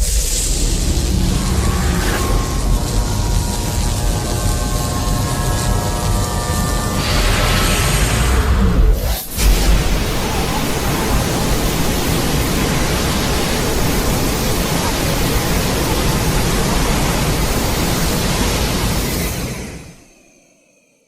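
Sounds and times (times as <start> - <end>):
loud rushing hiss: 0.0 - 20.8.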